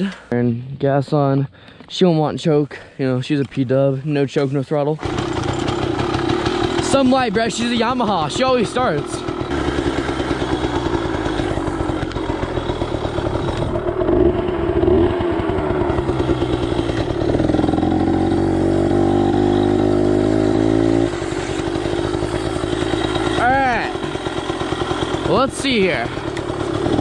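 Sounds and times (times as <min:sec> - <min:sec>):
two-stroke engine revving: 0:05.0 - 0:27.0.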